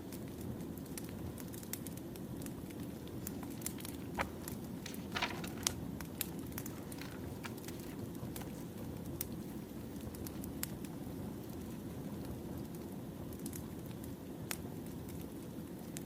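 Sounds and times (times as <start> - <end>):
wood fire crackling: 0.9 - 15.6.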